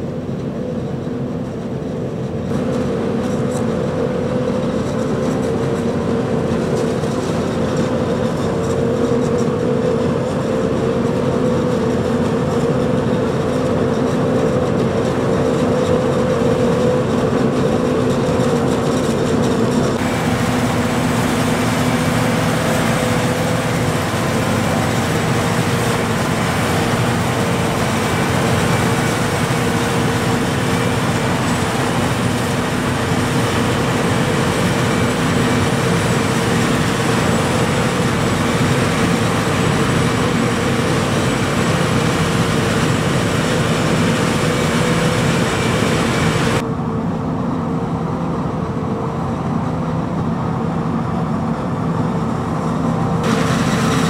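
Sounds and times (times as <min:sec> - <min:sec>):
harvester mechanical drone: 0:00.0 - 0:54.0.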